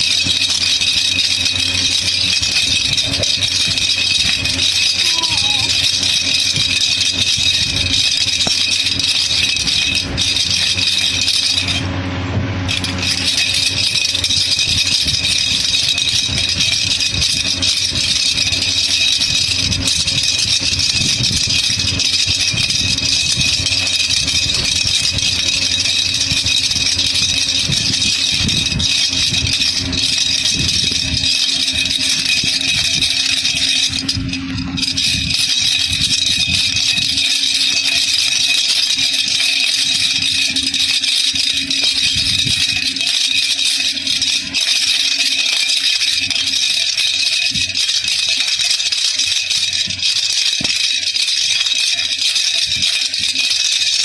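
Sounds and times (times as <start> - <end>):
baby rattle shaking: 0.0 - 11.9, 12.7 - 54.0.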